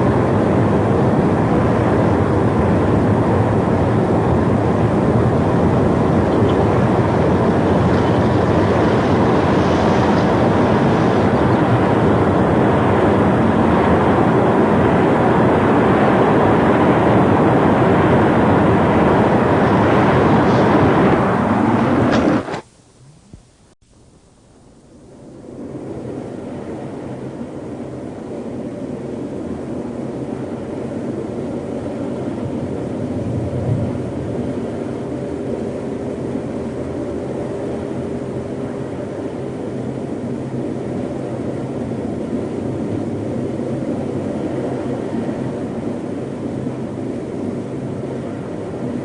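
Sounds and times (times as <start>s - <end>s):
strong storm wind blowing: 0.0s - 22.6s, 25.2s - 49.0s.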